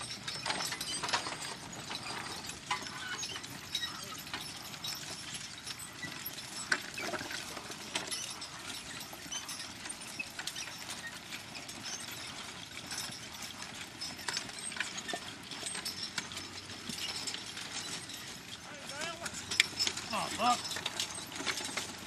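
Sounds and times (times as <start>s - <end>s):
harness and plow gear rattling: 0.0s - 22.0s
hooves: 0.0s - 22.0s.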